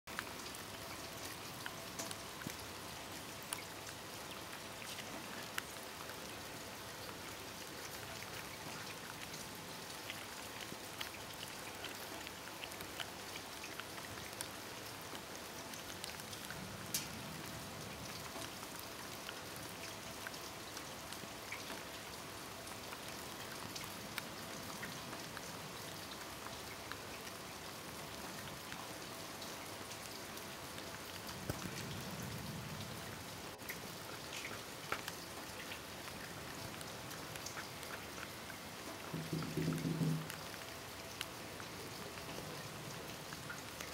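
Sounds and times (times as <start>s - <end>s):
light rain pattering: 0.1s - 43.9s.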